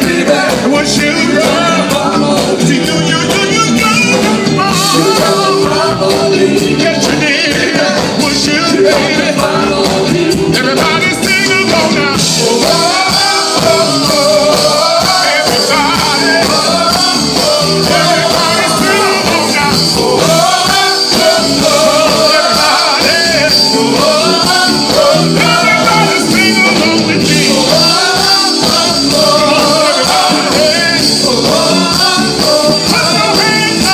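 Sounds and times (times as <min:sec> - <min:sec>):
drums with steady beat: 0:00.0 - 0:33.9
men singing: 0:00.0 - 0:33.9.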